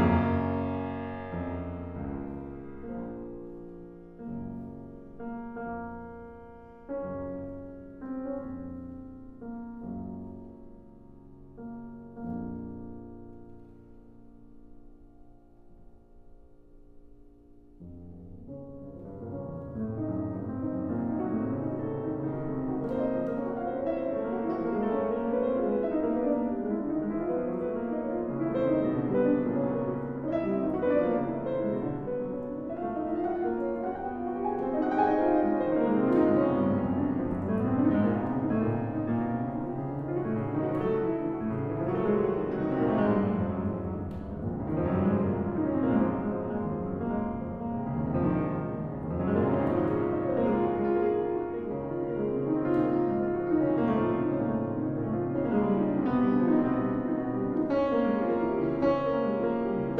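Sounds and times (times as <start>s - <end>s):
classical piano music: 0.0s - 59.9s.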